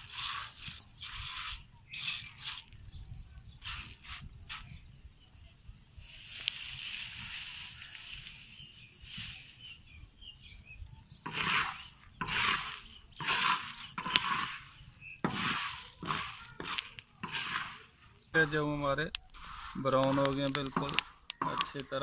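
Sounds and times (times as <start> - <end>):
grains scraped in a pan: 0.0 - 4.9, 6.0 - 10.0, 11.2 - 22.0.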